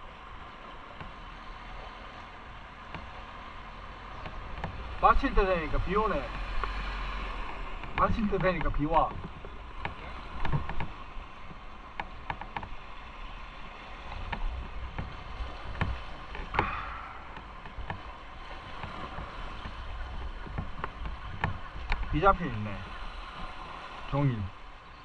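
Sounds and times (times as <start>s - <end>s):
steady low rumble: 0.0s - 24.6s.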